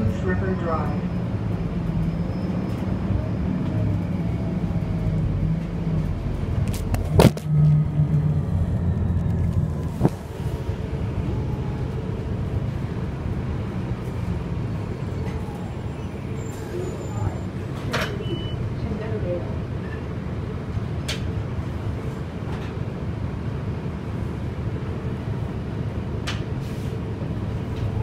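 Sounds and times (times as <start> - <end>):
bus drivetrain hum: 0.0 - 28.0
road rumble: 0.0 - 28.0.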